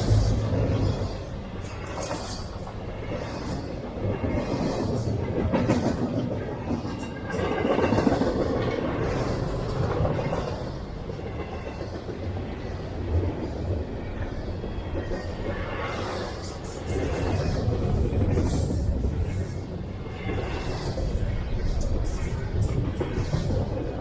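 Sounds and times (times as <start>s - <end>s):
steel wheels clicking on rails: 0.0s - 24.0s
train cars rolling past: 0.0s - 24.0s.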